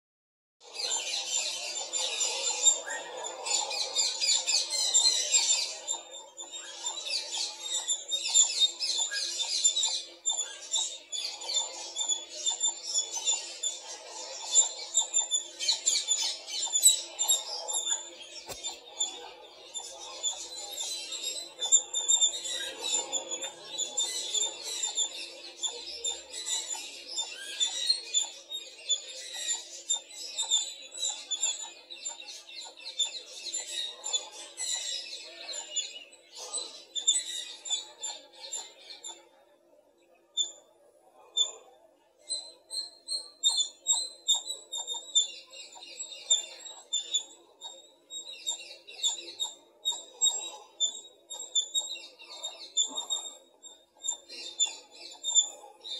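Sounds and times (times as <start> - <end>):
wild birds chirping: 0.6 - 55.9.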